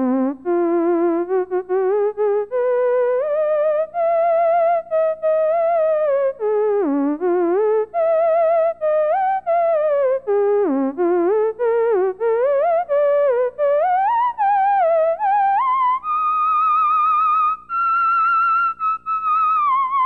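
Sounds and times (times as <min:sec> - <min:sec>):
theremin with vibrato: 0:00.0 - 0:20.0.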